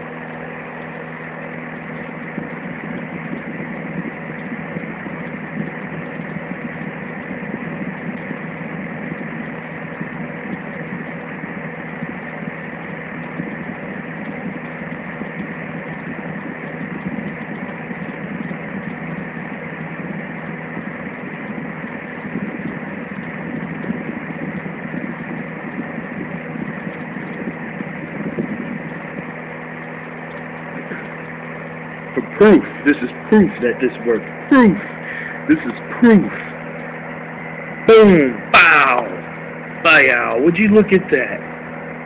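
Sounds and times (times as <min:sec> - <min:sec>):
fan heater blowing air: 0:00.0 - 0:42.0
low motor hum: 0:00.0 - 0:42.0.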